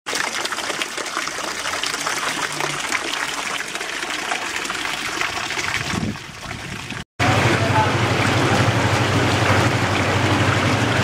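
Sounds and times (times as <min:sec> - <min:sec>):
fountain water splashing into trough: 0:00.1 - 0:11.0.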